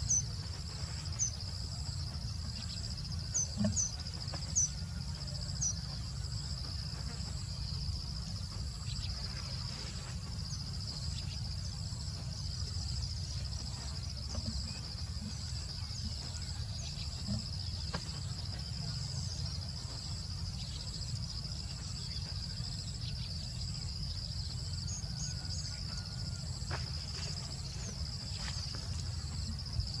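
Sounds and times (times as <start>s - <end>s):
insect chorus trilling: 0.0s - 30.0s.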